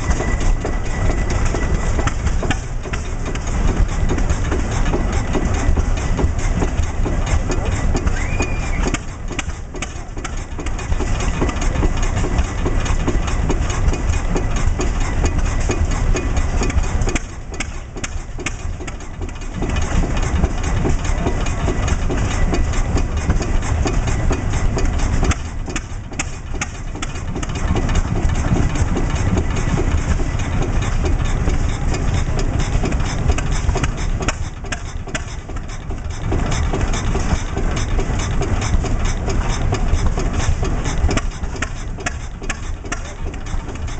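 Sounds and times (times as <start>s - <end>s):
old diesel engine running: 0.0s - 43.9s.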